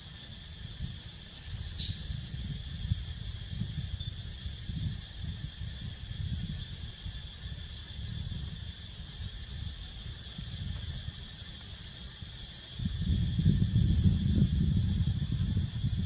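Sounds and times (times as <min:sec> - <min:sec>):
high insect drone: 0:00.0 - 0:16.0
wind rumbling on microphone: 0:00.0 - 0:16.0.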